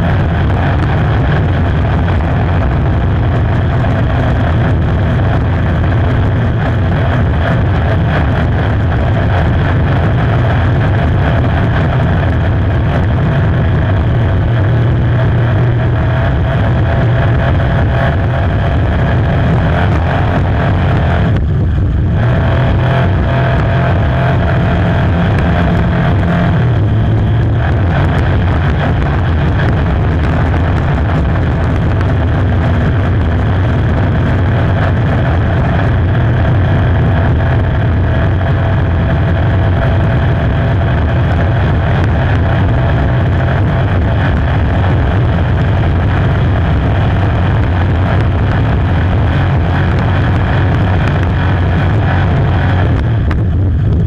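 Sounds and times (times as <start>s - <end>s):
boat engine deep drone: 0.0s - 54.0s.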